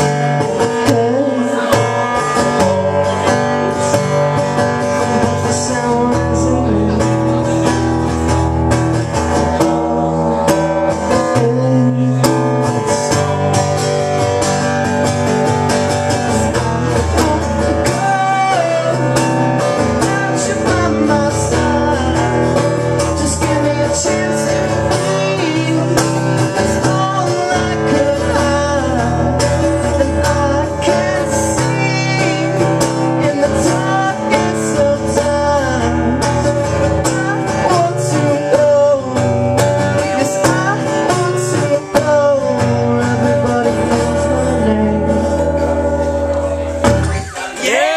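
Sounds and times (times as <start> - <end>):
man singing: 0.0 - 46.0, 47.3 - 47.9
acoustic guitar strummed: 0.0 - 47.9.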